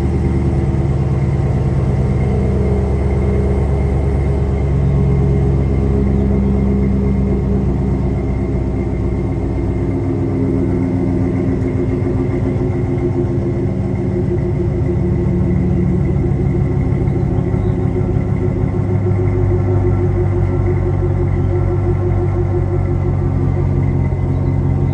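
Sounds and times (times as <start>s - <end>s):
truck engine idling: 0.0s - 24.9s.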